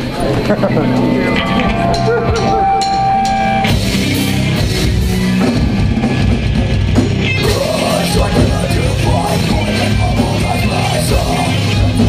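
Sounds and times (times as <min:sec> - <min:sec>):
distorted guitars and bass: 0:00.0 - 0:12.0
pounding drum kit: 0:00.0 - 0:12.0.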